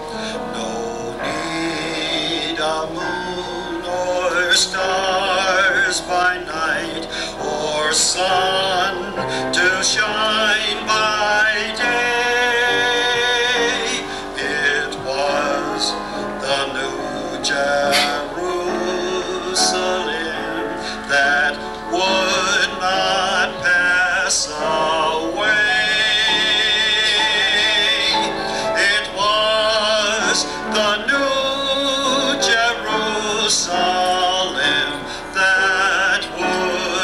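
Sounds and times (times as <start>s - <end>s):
man singing operatically: 0.0s - 37.0s.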